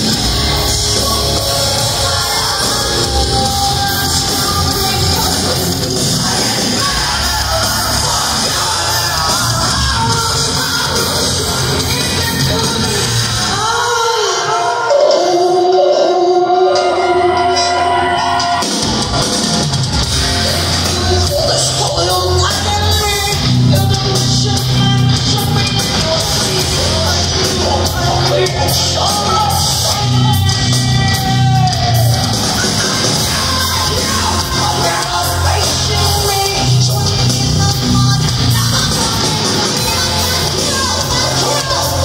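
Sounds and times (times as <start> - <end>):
person singing: 0.0 - 19.3, 20.3 - 42.0
heavy metal band playing: 0.0 - 42.0.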